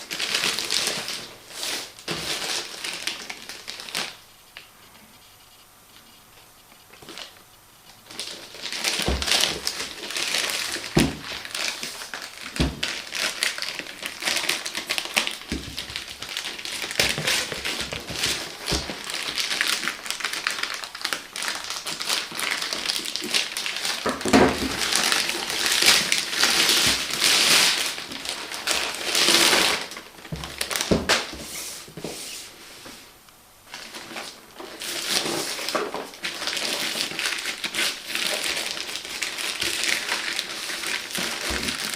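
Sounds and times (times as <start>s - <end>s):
plastic packaging crinkling: 0.0s - 31.8s, 33.7s - 41.9s.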